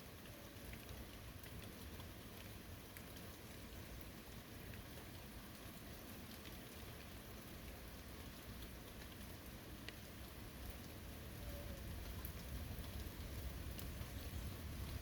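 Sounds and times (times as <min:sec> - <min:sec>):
soft rainfall: 0:00.0 - 0:15.0
raindrop ticks: 0:00.1 - 0:11.0, 0:11.6 - 0:15.0.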